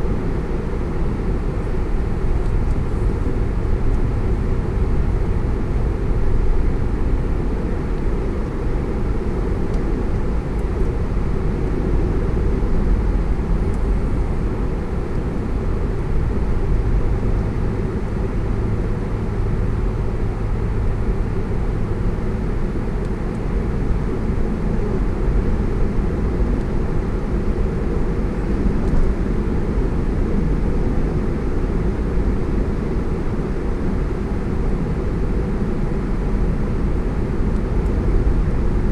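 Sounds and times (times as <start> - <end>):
car driving road rumble: 0.0 - 38.9.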